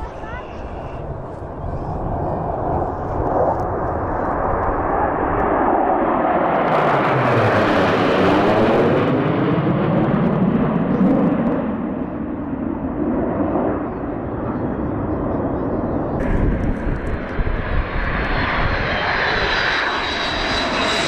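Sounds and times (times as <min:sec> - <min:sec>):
jet fighters flying over: 0:00.0 - 0:21.0.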